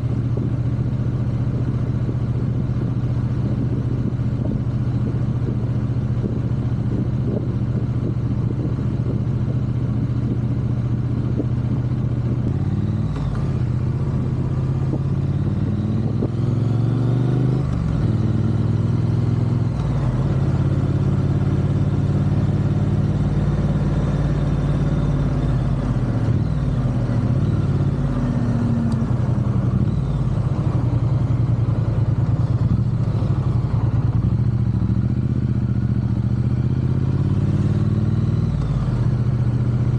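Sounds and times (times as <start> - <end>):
motorcycle engine revving: 5.9 - 39.9.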